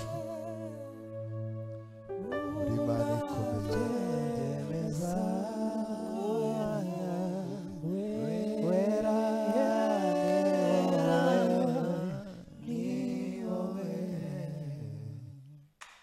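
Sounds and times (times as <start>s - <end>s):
men singing in harmony: 0.0s - 1.2s, 2.2s - 15.6s.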